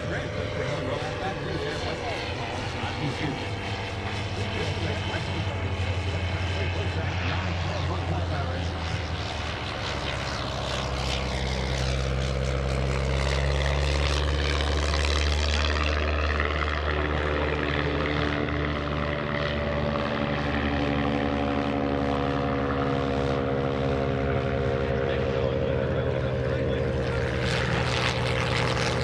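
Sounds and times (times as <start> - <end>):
propeller aircraft flying low: 0.0 - 29.0.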